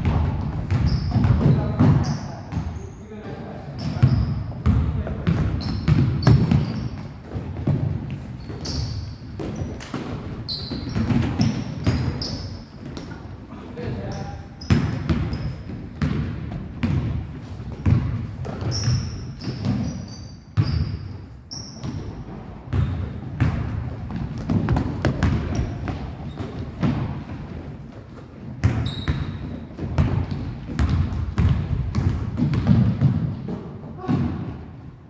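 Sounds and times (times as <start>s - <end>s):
sneakers squeaking on floor: 0.0s - 34.7s
basketballs bouncing on wooden floor: 0.0s - 34.8s.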